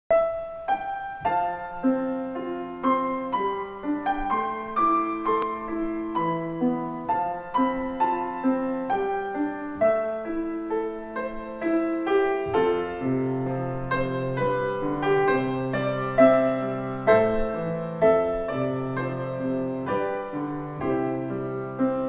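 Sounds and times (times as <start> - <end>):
grand piano playing: 0.1 - 22.0.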